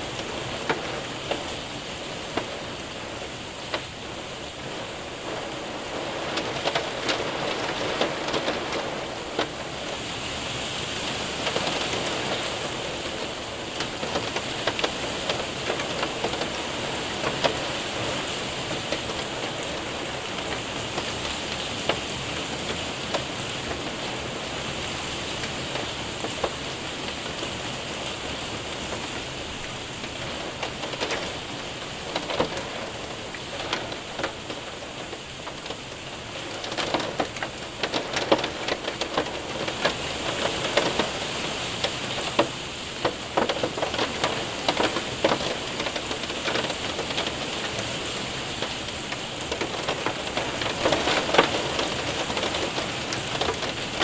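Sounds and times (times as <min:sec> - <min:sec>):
hail ticking on window and roof: 0:00.0 - 0:54.0
steady rain: 0:00.0 - 0:54.0.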